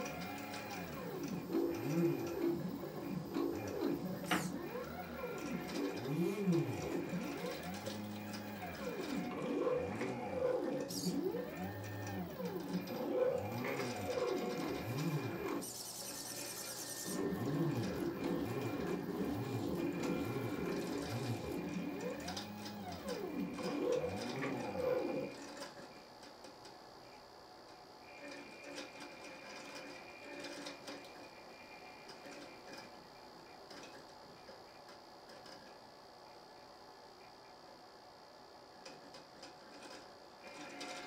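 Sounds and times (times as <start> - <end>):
stepper motors whining: 0.0 - 36.5.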